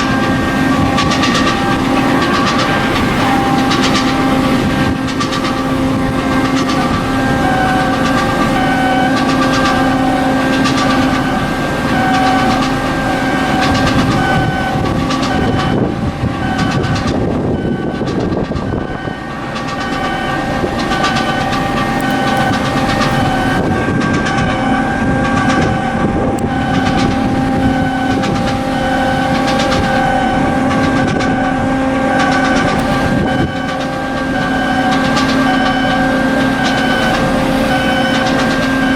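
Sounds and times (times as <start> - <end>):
machinery humming and rumbling: 0.0 - 38.9.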